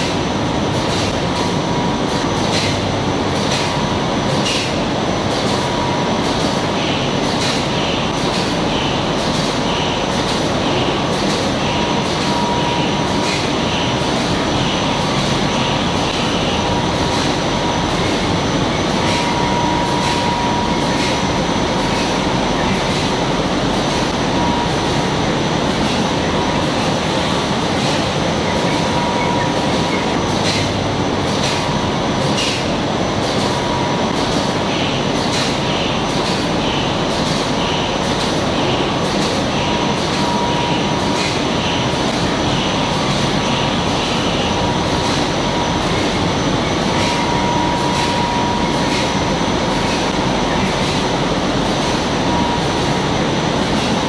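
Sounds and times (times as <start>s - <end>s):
printing press running: 0.0s - 54.0s.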